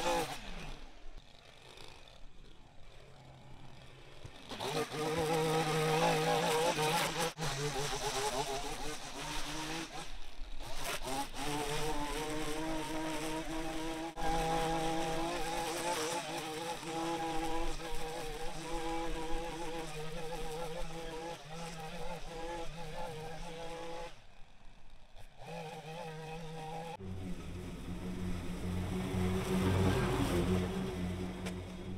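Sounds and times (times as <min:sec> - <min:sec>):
small engine yard tool running: 0:00.0 - 0:31.9.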